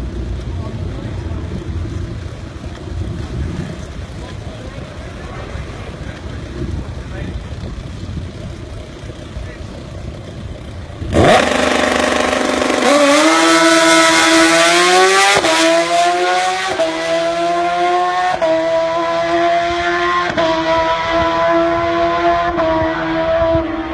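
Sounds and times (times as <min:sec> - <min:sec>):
motorcycle accelerating through gears: 0:00.0 - 0:23.9.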